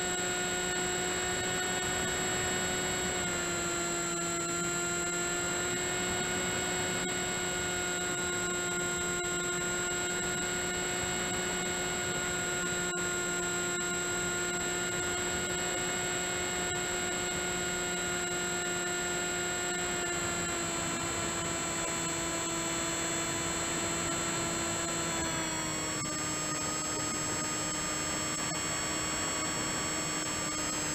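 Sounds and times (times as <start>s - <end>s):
electric motor and propeller whine: 0.0s - 30.9s.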